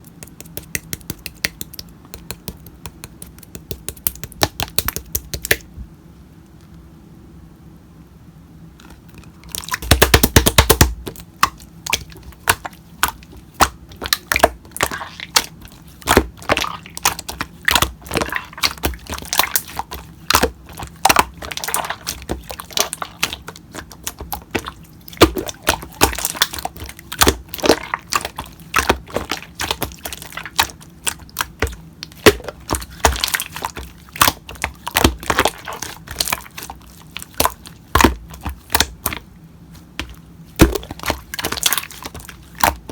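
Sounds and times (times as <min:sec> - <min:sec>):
slime squished by hand: 0:00.0 - 0:05.7, 0:08.8 - 0:42.9.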